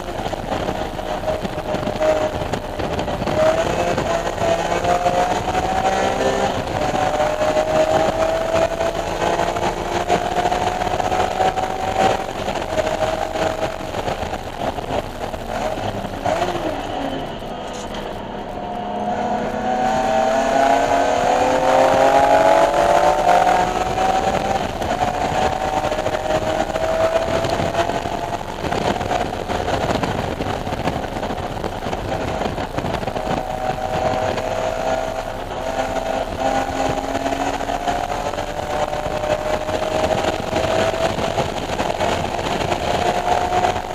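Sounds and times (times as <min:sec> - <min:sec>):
car engine revving hard: 0:00.0 - 0:43.9.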